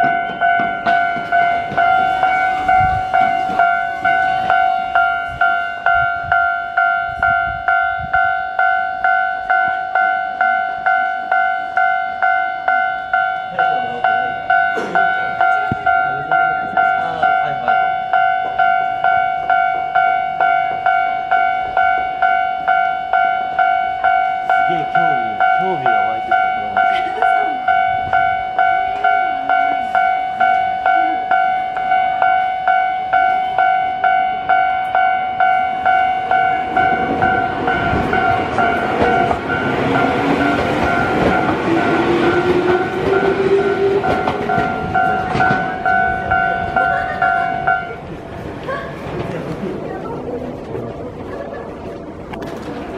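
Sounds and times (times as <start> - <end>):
level crossing warning bell: 0.0 - 50.7
train wheel and rail noise: 0.0 - 52.9.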